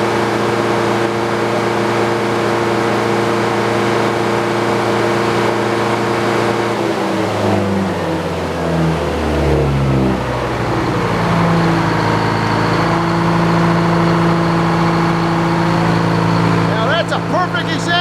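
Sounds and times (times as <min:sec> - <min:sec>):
gasoline engine running: 0:00.0 - 0:18.0.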